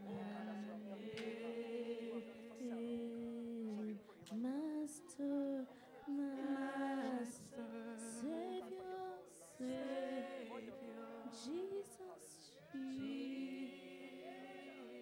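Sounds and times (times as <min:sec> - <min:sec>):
woman singing: 0:00.0 - 0:01.8, 0:02.5 - 0:13.6.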